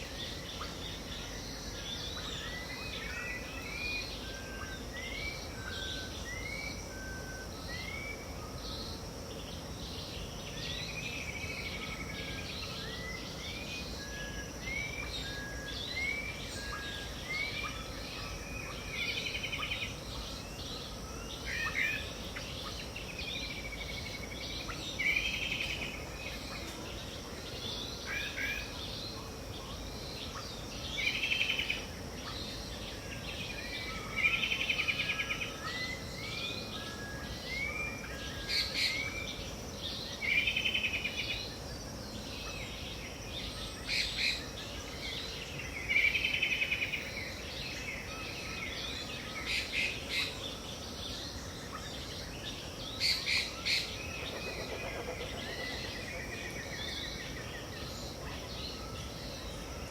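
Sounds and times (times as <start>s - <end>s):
high background hiss: 0.0s - 59.9s.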